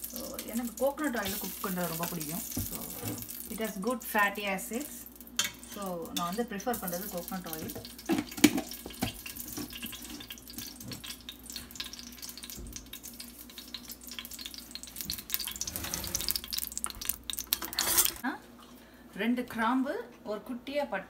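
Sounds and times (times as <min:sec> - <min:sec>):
oil crackling and sizzling: 0:00.0 - 0:18.2.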